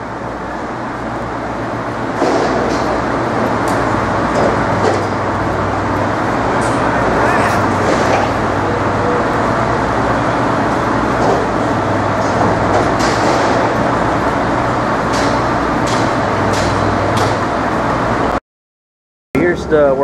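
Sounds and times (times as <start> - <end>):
heavy machinery rumbling: 2.2 - 18.3.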